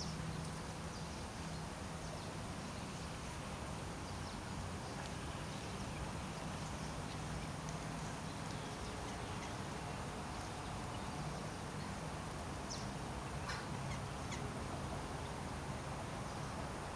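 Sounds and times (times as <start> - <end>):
small birds chirping: 0.0 - 16.7.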